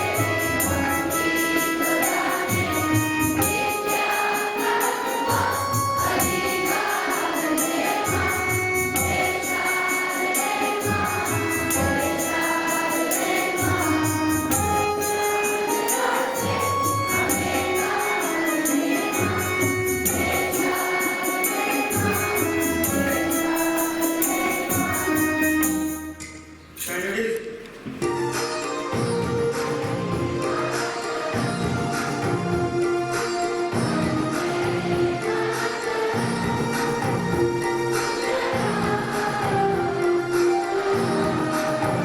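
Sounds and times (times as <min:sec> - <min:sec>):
group singing: 0:00.0 - 0:26.1, 0:29.6 - 0:42.0
jingling percussion: 0:00.0 - 0:27.2, 0:28.0 - 0:42.0.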